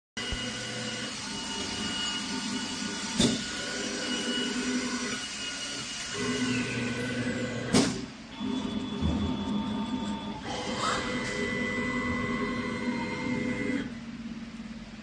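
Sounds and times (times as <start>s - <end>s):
motors whining: 0.2s - 14.0s
milling machine humming: 0.2s - 15.0s.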